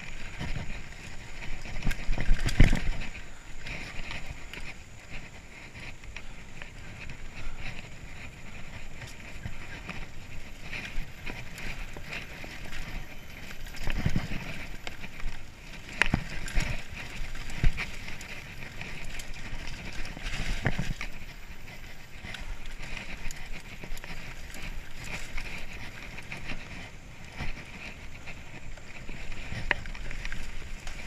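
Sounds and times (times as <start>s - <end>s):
bike hitting roots and rocks: 0.0s - 31.0s
mountain bike rattling: 0.0s - 31.0s.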